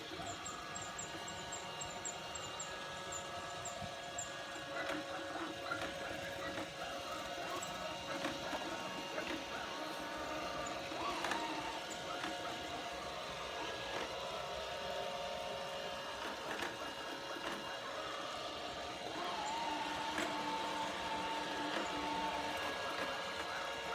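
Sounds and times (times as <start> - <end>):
robot vacuum motor whirring: 0.0 - 23.9.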